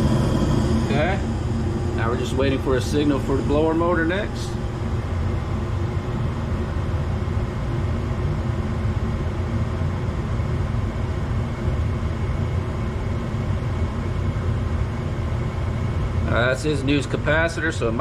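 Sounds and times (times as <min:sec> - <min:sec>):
gas furnace burners rumbling: 0:00.0 - 0:18.0.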